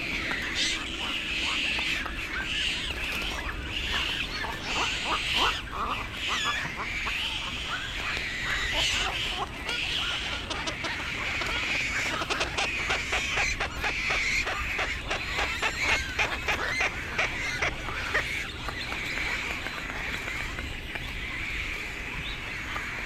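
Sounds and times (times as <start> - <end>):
herons calling: 0.0 - 23.0.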